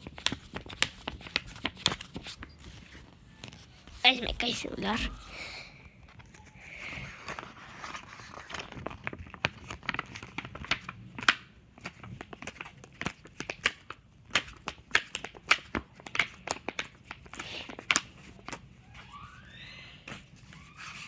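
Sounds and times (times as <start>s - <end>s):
paper pages rustling: 0.0s - 4.5s, 6.1s - 19.0s.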